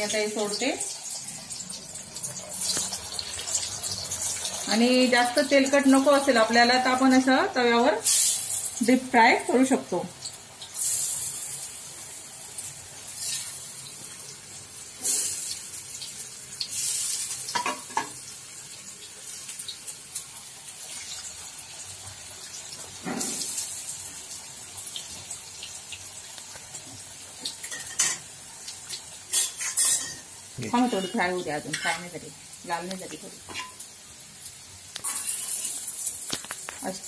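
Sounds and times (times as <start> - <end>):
hot oil sizzling: 0.0 - 37.0.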